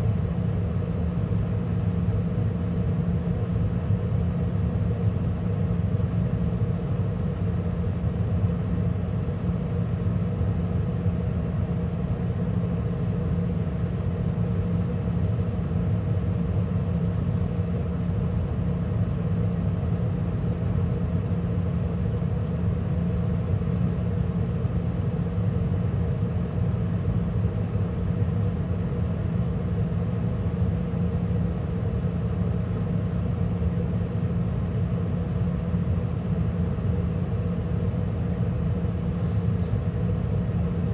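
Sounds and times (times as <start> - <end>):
gas furnace humming: 0.0 - 40.9.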